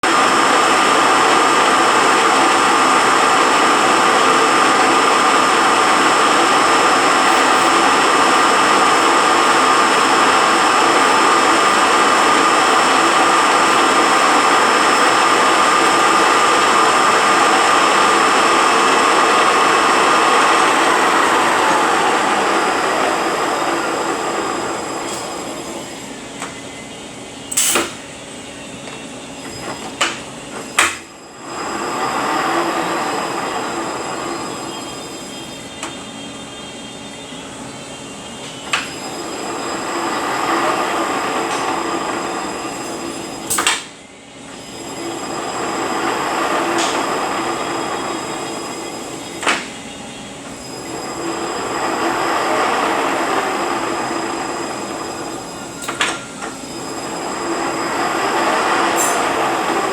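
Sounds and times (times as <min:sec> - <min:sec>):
transmission gears whining: 0:00.1 - 0:59.9.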